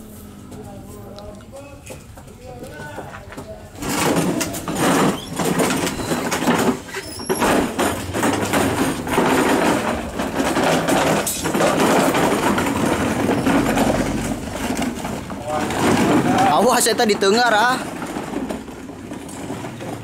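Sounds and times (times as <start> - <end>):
toy truck rattling over gravel: 1.2 - 20.0.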